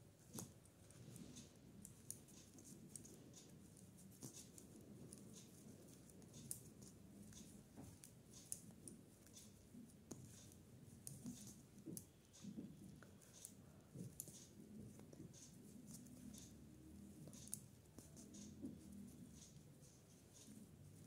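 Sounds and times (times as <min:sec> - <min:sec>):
low room hum: 0:00.0 - 0:21.0
knitting needles ticking: 0:00.2 - 0:21.0.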